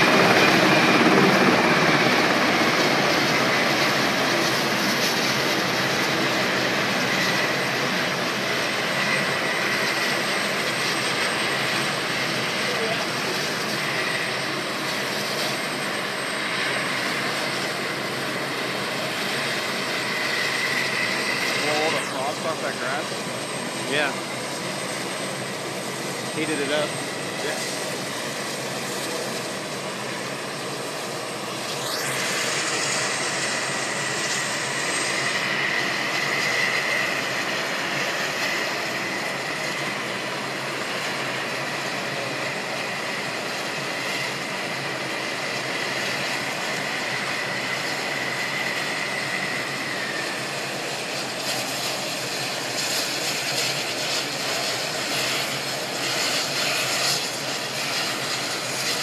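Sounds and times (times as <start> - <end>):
helicopter rotor and turbine rush: 0.0 - 59.0
high turbine whine: 0.0 - 59.0.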